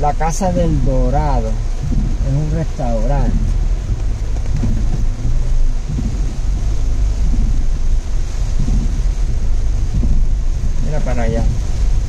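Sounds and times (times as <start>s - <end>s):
car rumbling on the move: 0.0s - 12.0s
road and wind noise: 0.0s - 12.0s.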